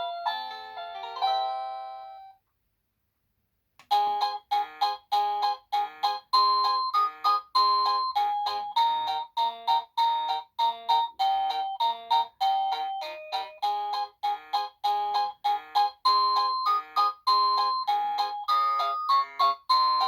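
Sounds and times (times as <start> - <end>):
electronic doorbell chime melodies: 3.9 - 20.0.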